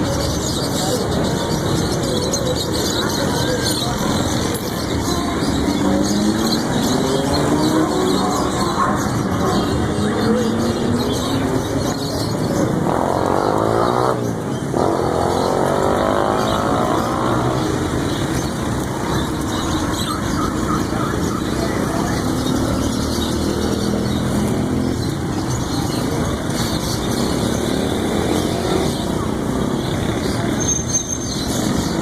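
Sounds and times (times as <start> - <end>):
motorcycles: 0.0 - 32.0
street traffic engines: 0.0 - 32.0.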